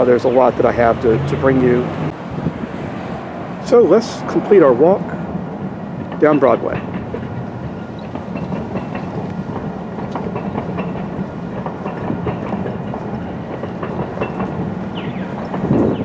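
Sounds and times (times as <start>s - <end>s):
train rolling along track: 0.0s - 16.0s.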